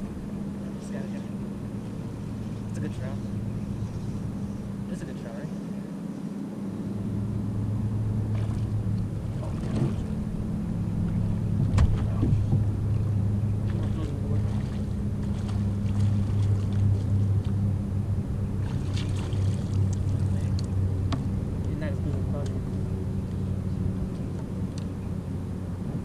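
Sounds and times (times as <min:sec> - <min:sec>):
motorboat engine humming: 0:00.0 - 0:26.0.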